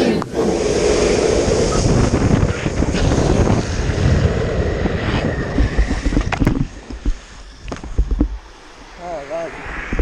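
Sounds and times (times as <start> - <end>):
skateboard wheels rolling on asphalt: 0.0 - 8.8
wind rushing over microphone: 0.0 - 10.0.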